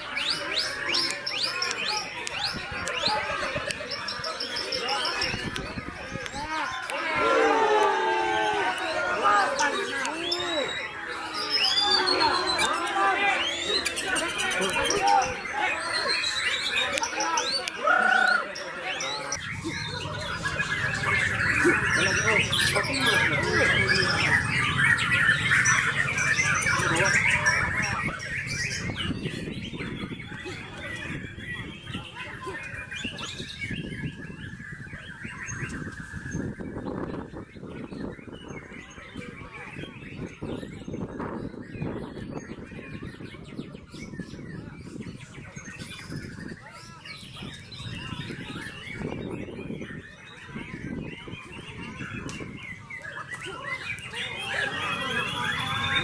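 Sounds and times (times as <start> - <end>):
bird singing whistles and chatter: 0.0 - 56.0.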